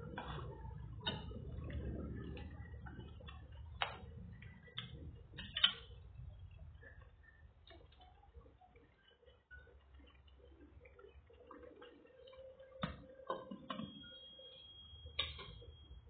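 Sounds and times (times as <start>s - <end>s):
thick sauce bubbling: 0.0s - 13.8s.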